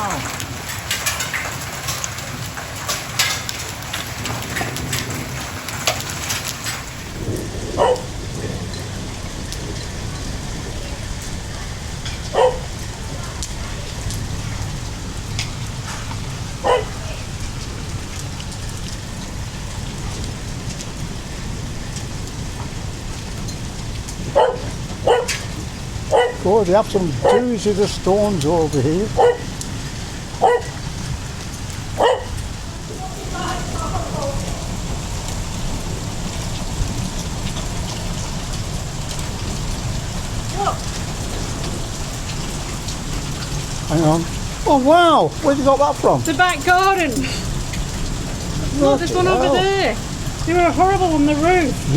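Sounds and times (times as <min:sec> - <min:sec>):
heavy rain and hail: 0:00.0 - 0:51.9.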